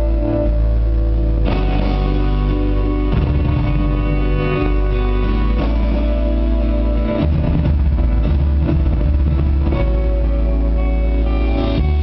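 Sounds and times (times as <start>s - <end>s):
live band playing instrumental: 0.0s - 12.0s.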